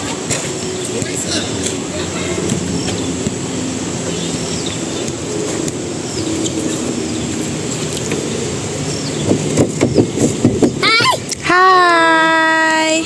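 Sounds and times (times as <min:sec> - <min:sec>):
steady low rumble: 0:00.0 - 0:13.0
birds chirping: 0:00.4 - 0:11.4.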